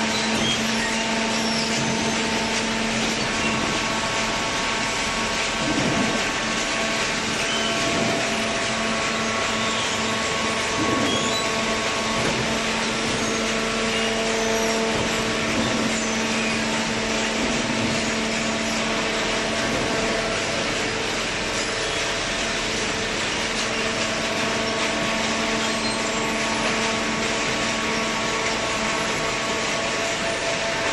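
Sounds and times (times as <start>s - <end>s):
baler machine droning: 0.0s - 30.9s.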